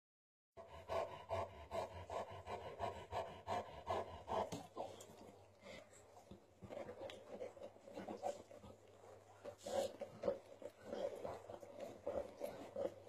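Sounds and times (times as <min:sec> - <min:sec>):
dog panting: 0:00.6 - 0:13.0.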